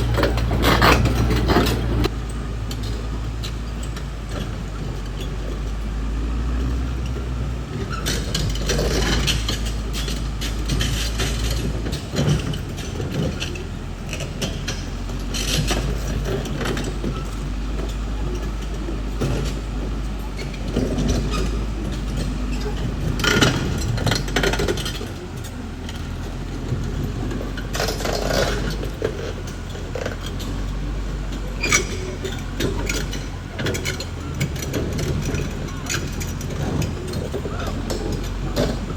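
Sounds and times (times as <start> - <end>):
bulldozer diesel engine: 0.0 - 38.9
steel tracks clanking over rock: 0.0 - 38.9.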